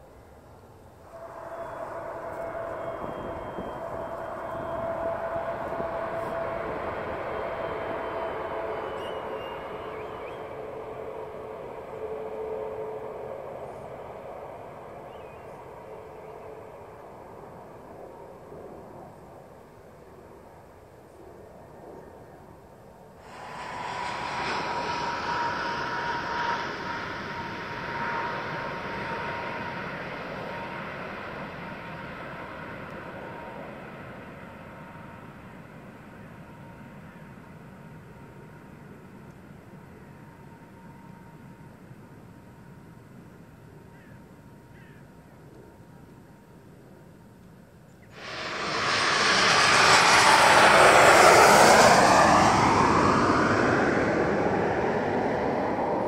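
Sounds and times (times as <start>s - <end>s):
jet engines rushing with high whine: 0.0s - 56.0s.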